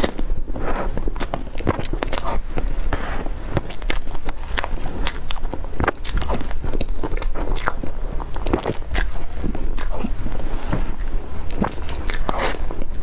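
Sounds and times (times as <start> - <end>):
lip smacks and clicks: 0.0 - 13.0
wet squelching chewing: 0.0 - 13.0.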